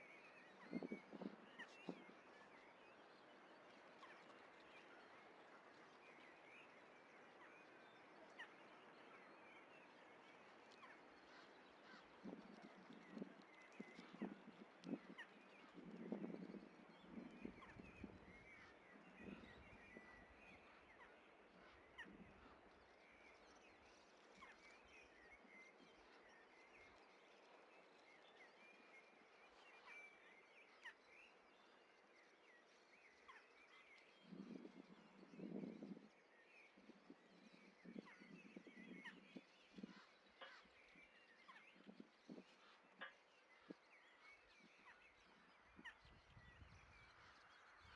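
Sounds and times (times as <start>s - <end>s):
small birds chirping: 0.2s - 47.9s.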